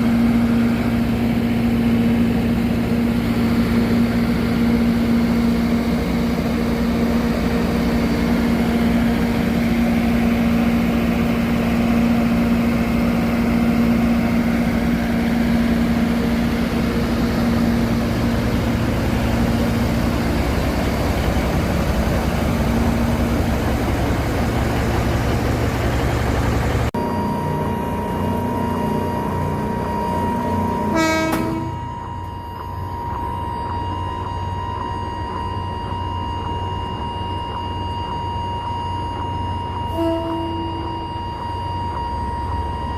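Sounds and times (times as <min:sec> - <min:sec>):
train engine drone: 0:00.0 - 0:42.9.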